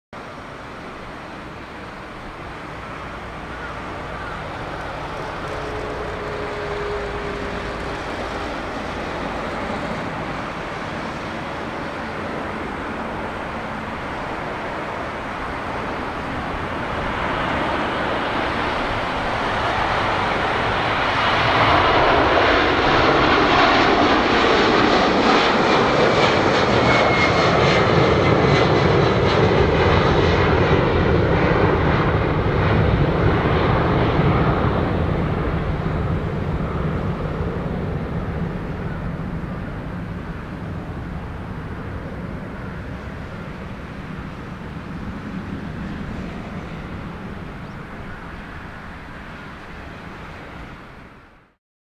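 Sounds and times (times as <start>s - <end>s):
faint jet whine: 0.2s - 51.6s
jet engines rumbling: 0.2s - 51.6s.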